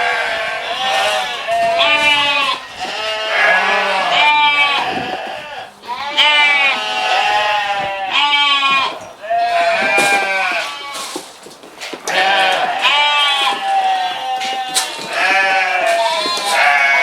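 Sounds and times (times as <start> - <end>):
sheep bleating: 0.0 - 11.2, 12.0 - 17.0.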